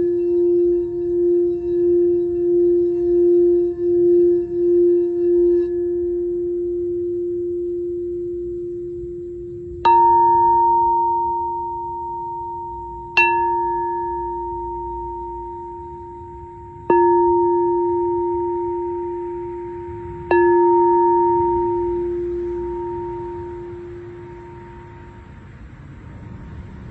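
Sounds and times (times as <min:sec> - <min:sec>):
singing bowl strikes: 0:00.0 - 0:25.3
singing bowl ringing: 0:00.0 - 0:25.4.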